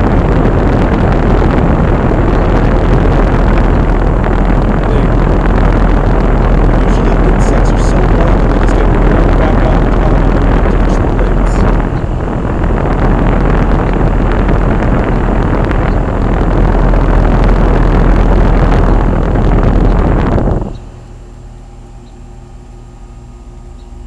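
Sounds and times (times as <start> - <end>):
heat pump fan rushing air: 0.0 - 24.0.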